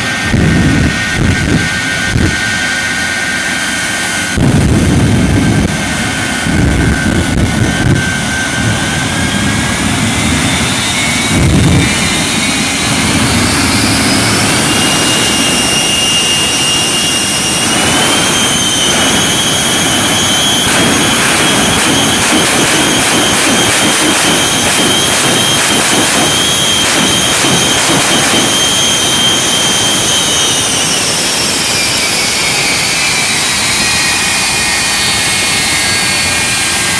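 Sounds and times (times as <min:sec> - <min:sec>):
deep rumbling surges: 0:00.0 - 0:36.9
jet engines roaring: 0:00.0 - 0:36.9
turbine whine climbing: 0:00.0 - 0:36.9.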